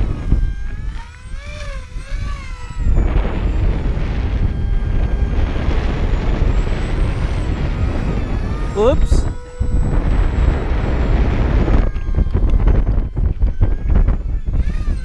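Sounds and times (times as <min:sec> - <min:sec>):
electric motor and propeller whine: 0:00.0 - 0:15.0
wind buffeting microphone: 0:00.0 - 0:15.0.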